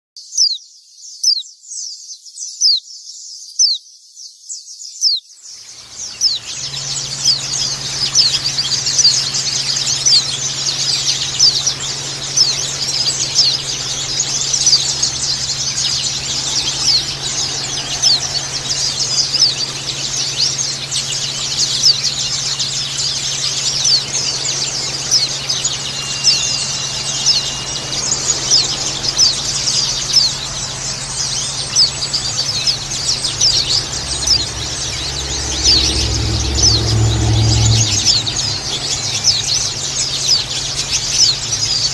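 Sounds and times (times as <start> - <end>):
chatter of many birds: 0.2 - 41.9
steady low hum: 5.8 - 41.9.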